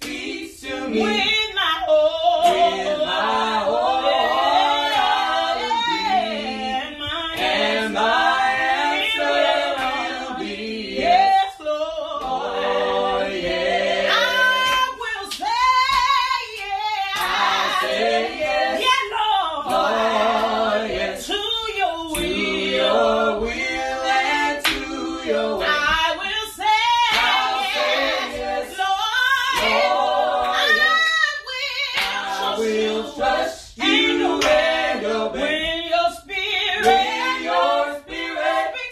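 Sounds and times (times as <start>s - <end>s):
a cappella gospel singing: 0.0s - 38.9s.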